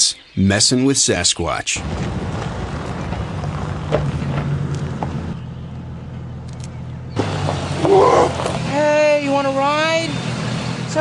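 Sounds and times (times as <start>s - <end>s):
vehicle engine and road noise: 1.7s - 11.0s.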